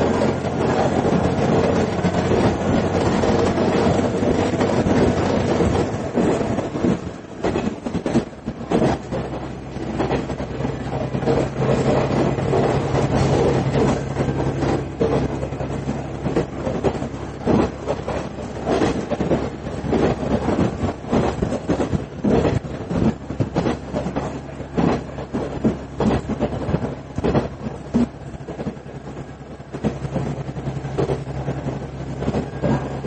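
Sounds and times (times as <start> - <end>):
continuous train rumble: 0.0 - 33.0
low engine hum: 0.0 - 33.0
train wheels clattering over rail joints: 0.0 - 33.0.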